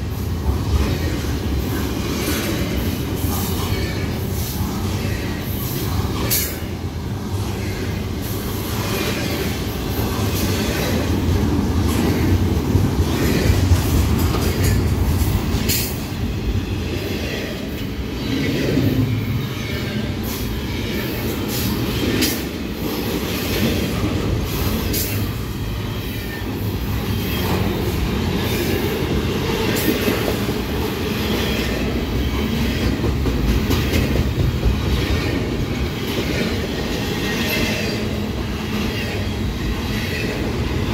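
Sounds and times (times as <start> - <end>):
steel wheels rumbling on rails: 0.0 - 40.9.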